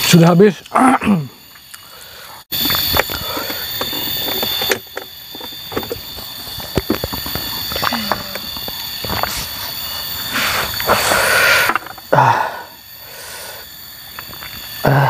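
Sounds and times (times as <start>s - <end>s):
high-pitched multi-tone whine: 0.0s - 15.0s.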